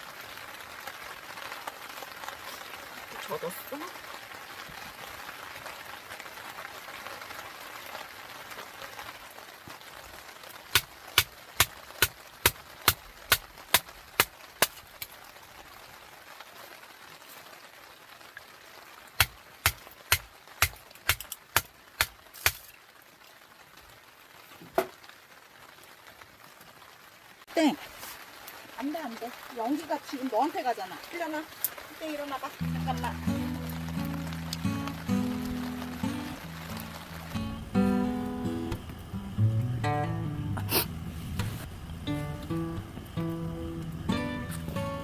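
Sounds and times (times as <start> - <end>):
rain hiss: 0.0 - 45.0.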